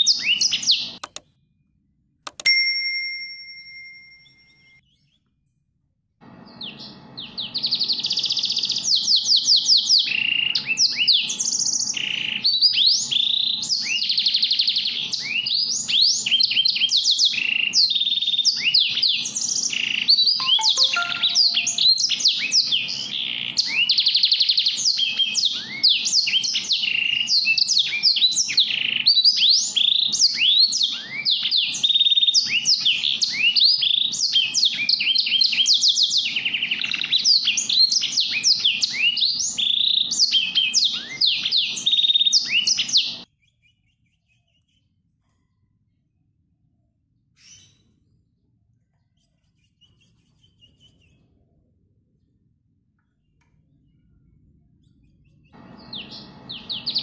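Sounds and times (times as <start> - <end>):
songbird chirping and trilling: 0.0 - 1.0, 6.4 - 45.0, 48.9 - 51.4, 53.3 - 57.0.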